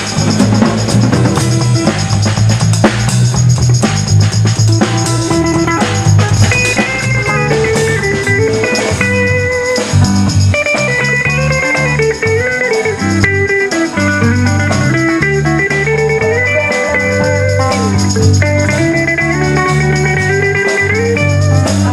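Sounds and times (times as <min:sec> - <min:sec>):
electric guitars playing blues: 0:00.0 - 0:21.9.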